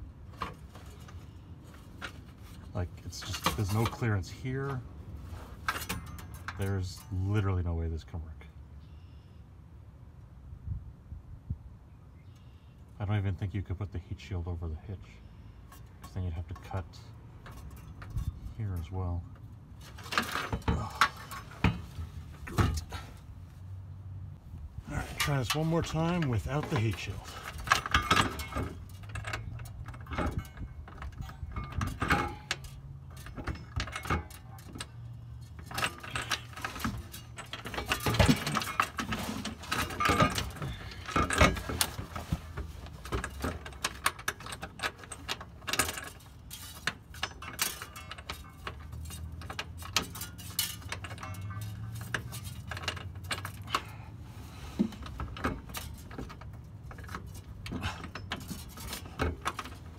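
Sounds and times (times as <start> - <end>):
metal trailer hitch clanking: 0.0 - 7.9, 15.3 - 23.9, 24.8 - 59.9.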